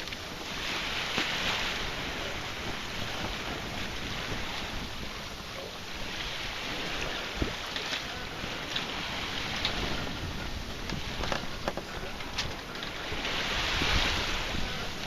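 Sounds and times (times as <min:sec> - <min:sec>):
wind and sea rushing: 0:00.0 - 0:15.0
wind buffeting microphone: 0:00.0 - 0:15.0.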